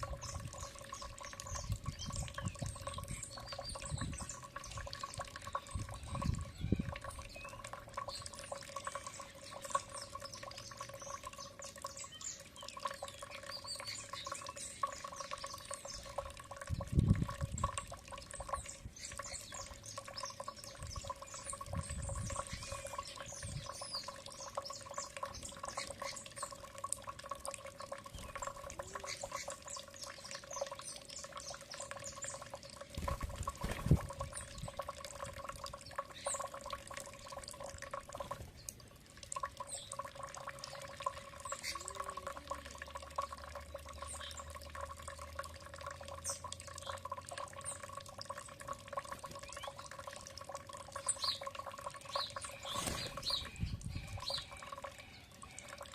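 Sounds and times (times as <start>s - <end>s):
small birds chirping: 0.0s - 38.8s, 39.5s - 44.9s, 46.0s - 50.2s, 50.9s - 55.9s.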